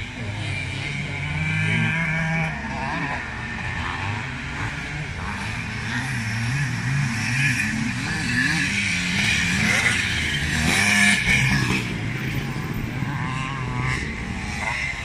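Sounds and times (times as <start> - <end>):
motocross motorcycle engines revving: 0.0 - 15.0.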